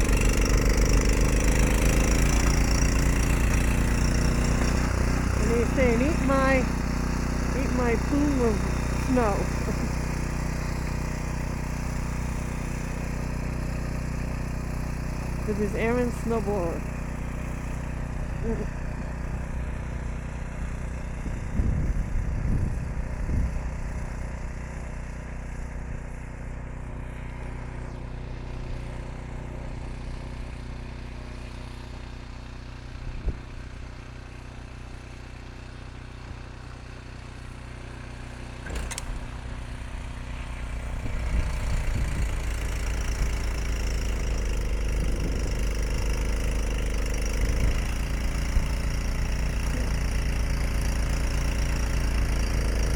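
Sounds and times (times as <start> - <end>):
snow blower engine running: 0.0 - 52.9.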